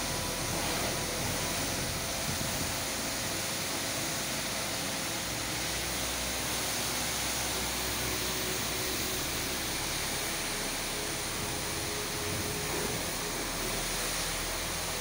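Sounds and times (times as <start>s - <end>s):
pressure washer spraying paving: 0.0s - 15.0s.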